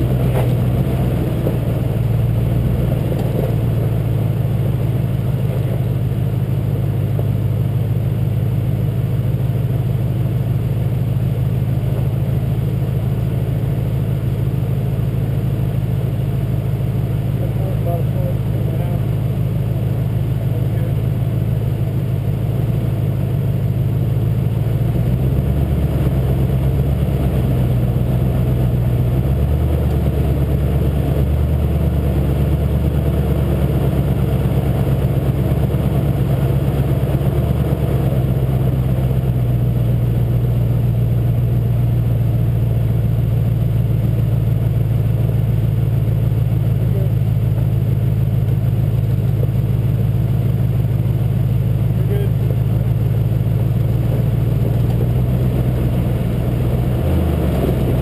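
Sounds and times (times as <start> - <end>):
pickup truck engine running: 0.0 - 58.0.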